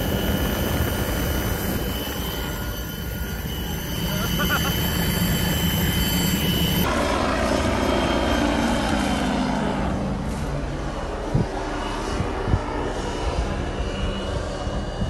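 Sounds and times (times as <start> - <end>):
helicopter flying overhead: 0.0 - 15.0
helicopter rotor drone in cabin: 0.0 - 15.0.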